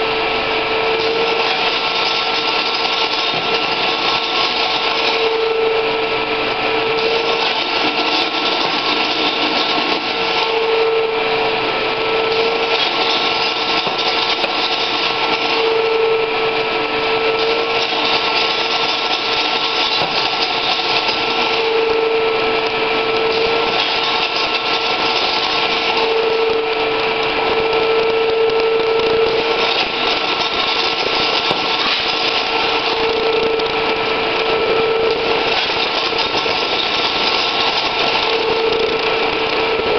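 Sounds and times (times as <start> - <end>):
rim-curling machine running: 0.0 - 39.9.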